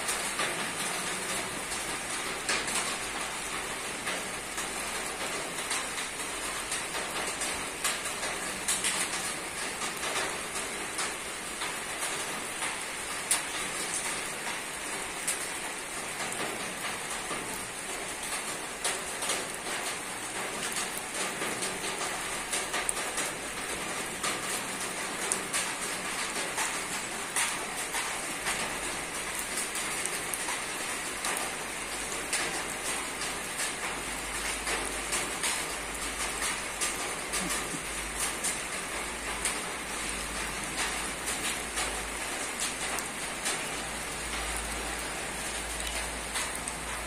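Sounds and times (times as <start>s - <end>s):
rain on a roof: 0.0s - 47.0s.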